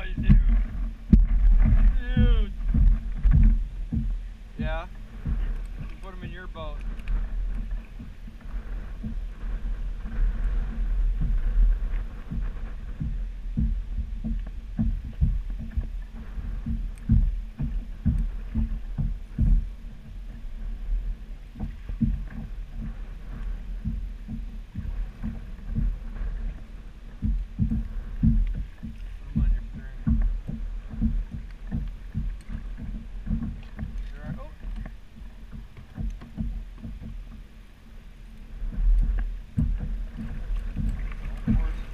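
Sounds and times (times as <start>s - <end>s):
water slapping kayak hull: 0.0s - 41.9s.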